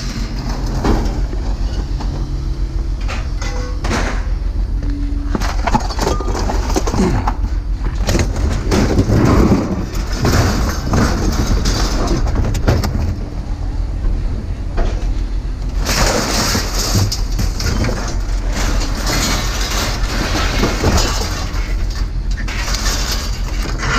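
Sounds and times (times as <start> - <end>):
vehicle engine drone: 0.0 - 23.9.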